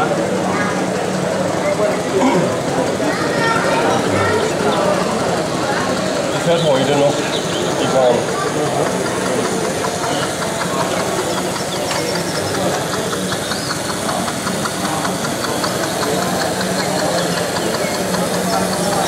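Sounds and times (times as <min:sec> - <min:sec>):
model train running with clicking: 0:00.0 - 0:19.0
murmur of voices: 0:00.0 - 0:19.0.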